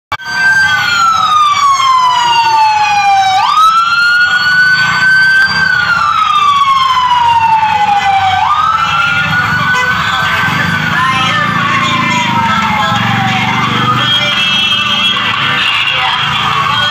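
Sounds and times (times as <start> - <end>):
emergency siren wailing: 0.1 - 16.9.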